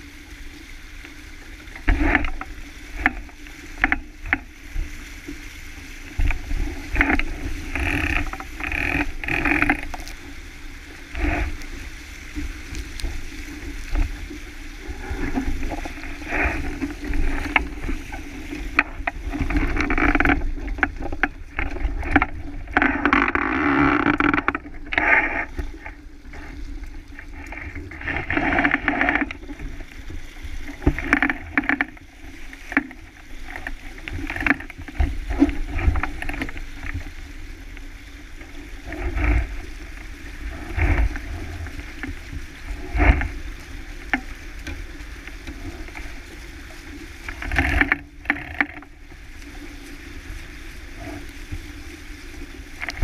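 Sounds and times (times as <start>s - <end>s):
water rushing along hull: 0.0s - 53.0s.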